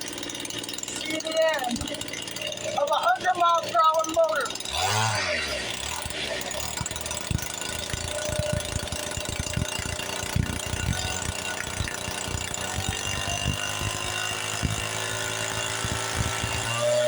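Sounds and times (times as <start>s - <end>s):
small two-stroke engine running: 0.0s - 17.0s.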